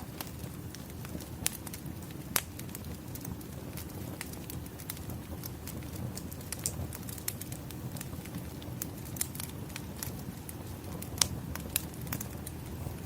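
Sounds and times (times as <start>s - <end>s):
firewood crackling and popping: 0.0s - 13.0s
low fire rumble: 0.0s - 13.0s.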